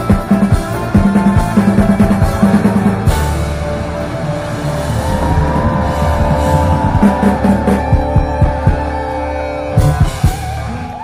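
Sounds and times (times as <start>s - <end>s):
drum kit hits: 0.0s - 9.0s
rock band playing: 0.0s - 11.0s.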